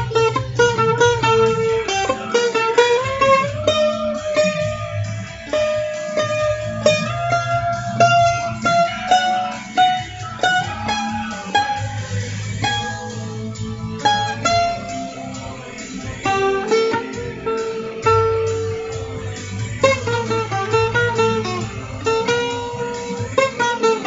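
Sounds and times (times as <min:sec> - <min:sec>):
sustained low bass: 0:00.0 - 0:23.6
picked guitar melody: 0:00.0 - 0:24.0.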